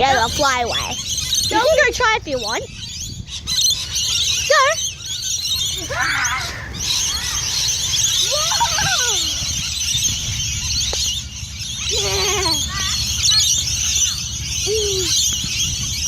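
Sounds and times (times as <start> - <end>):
lorikeets screeching and chattering: 0.0 - 16.0
loud bird squealing cries: 0.1 - 16.0.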